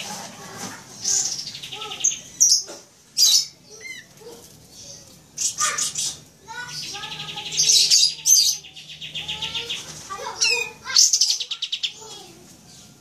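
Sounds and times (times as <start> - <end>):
bird chirping and trilling: 0.9 - 13.0.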